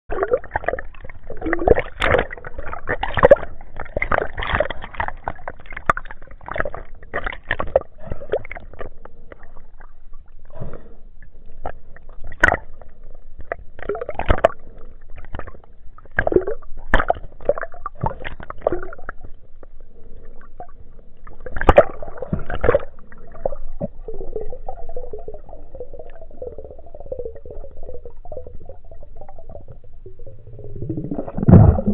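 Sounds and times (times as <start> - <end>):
underwater gurgling and sloshing: 0.1 - 31.9.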